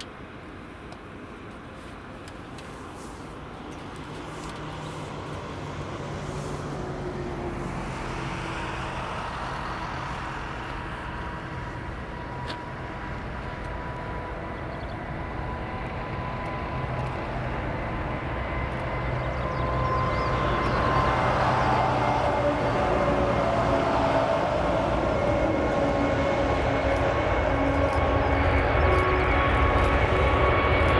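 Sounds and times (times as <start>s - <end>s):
jet engines rumbling and whining: 0.0s - 30.9s.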